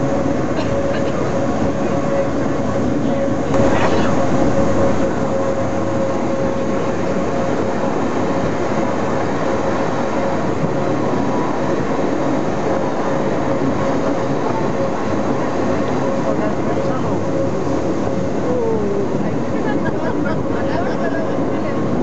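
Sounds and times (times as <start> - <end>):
steady whine: 0.0 - 22.0.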